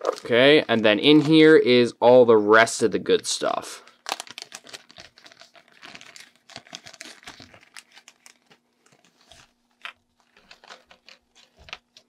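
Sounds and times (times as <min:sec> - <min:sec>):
plastic bag crinkling: 0:00.0 - 0:01.7, 0:03.8 - 0:12.0.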